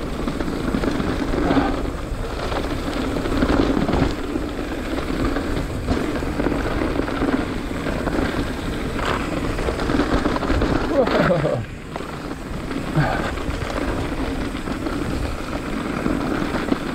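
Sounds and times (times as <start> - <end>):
bike rattles and clicks: 0.0 - 16.9
tyre rumble over dirt: 0.0 - 16.9
wind buffeting microphone: 0.0 - 16.9.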